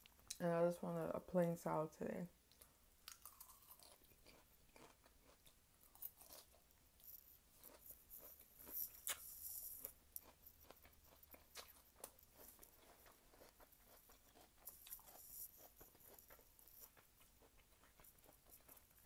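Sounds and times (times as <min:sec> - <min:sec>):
crunching lettuce: 0:03.1 - 0:19.0.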